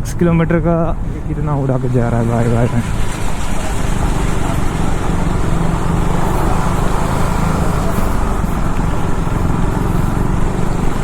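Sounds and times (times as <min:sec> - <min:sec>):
motorcycle engine cruising: 0:00.0 - 0:11.0
road noise: 0:00.0 - 0:11.0.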